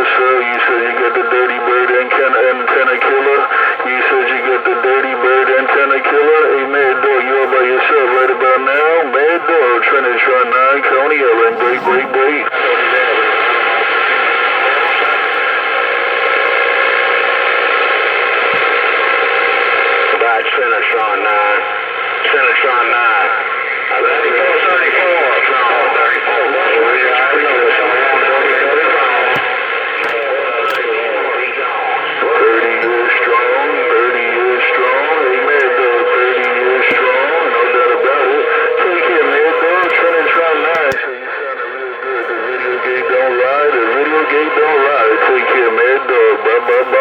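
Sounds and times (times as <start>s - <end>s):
faint whistling tones: 0.0s - 47.0s
radio static hiss: 0.0s - 47.0s.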